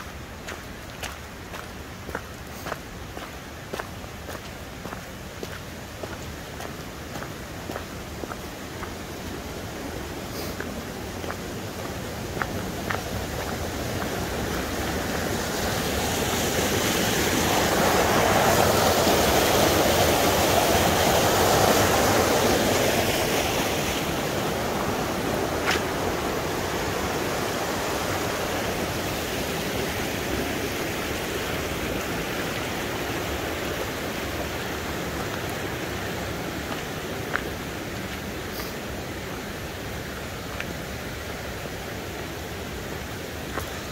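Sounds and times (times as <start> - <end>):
creek rushing over rocks: 0.0 - 43.9.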